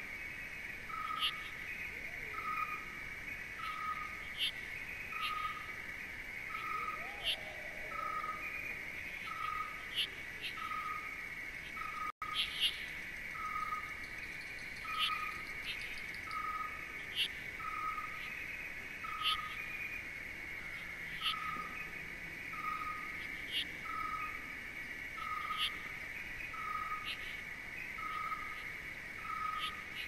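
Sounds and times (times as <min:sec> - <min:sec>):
insect-like chirring: 0:00.0 - 0:30.0.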